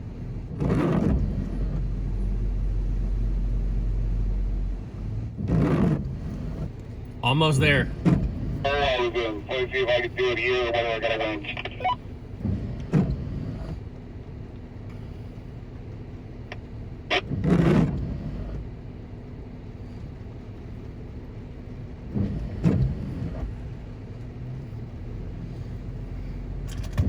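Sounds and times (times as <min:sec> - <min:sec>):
engine rumbling at low speed: 0:00.0 - 0:27.0.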